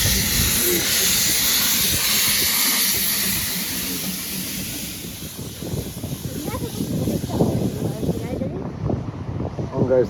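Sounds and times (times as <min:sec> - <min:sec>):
steam locomotive hissing: 0:00.0 - 0:08.6.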